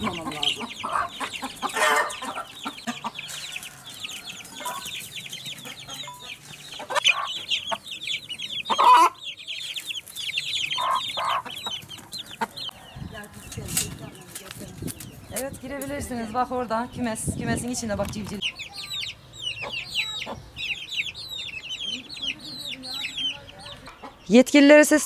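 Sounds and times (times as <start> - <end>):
chickens clucking: 0.0 - 24.4
chicks peeping: 0.0 - 24.4.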